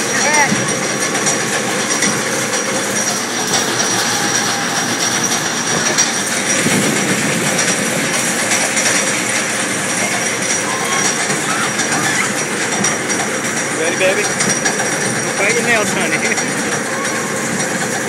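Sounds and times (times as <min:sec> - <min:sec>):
roller coaster wheels on rails: 0:00.0 - 0:18.0.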